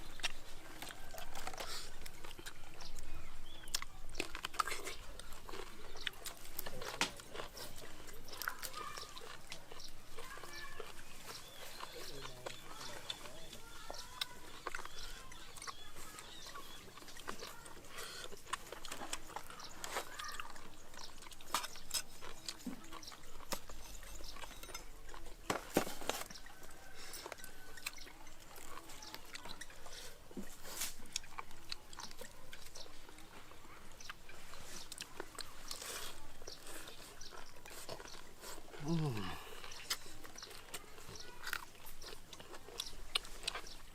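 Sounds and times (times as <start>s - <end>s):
person chewing meat: 0.0s - 43.9s.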